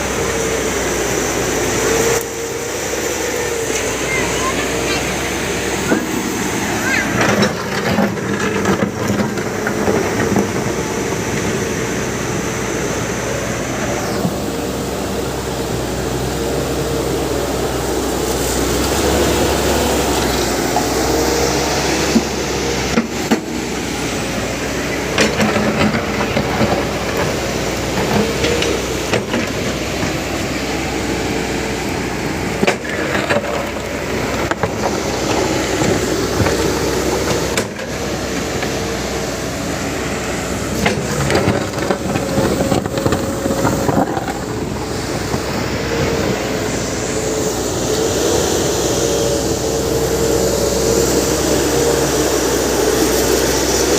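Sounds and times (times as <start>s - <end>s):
excavator engine and hydraulics: 0.0s - 53.9s.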